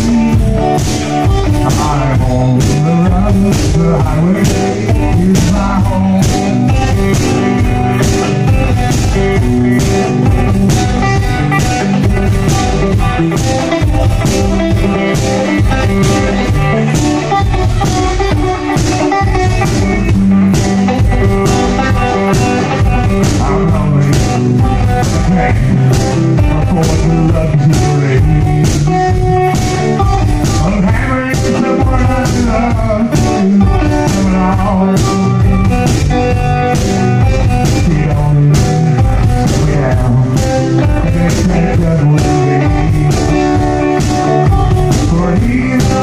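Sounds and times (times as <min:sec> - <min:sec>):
drum beat: 0:00.0 - 0:46.0
electric guitar: 0:00.0 - 0:46.0
man singing: 0:00.0 - 0:46.0.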